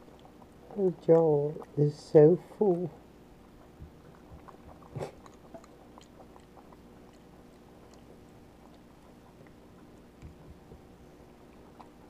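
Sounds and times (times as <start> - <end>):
monkey chewing wet clicks: 0.0 - 12.0.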